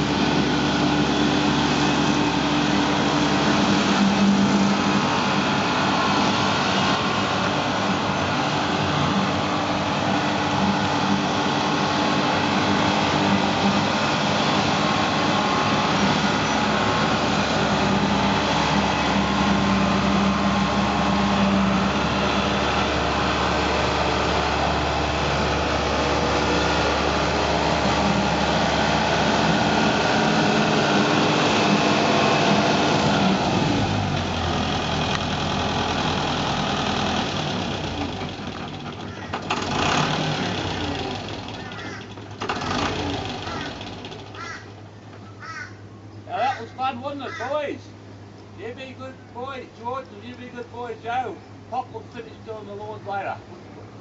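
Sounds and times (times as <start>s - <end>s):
rotary mower whirring: 0.0s - 45.6s
tractor engine under load: 0.0s - 45.9s.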